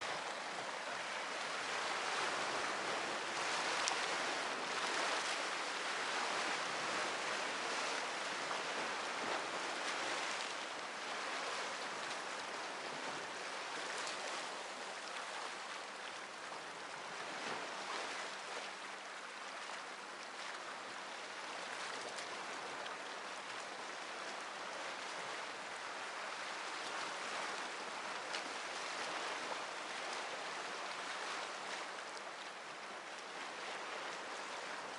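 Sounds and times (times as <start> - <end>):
sea waves washing ashore: 0.0 - 34.9.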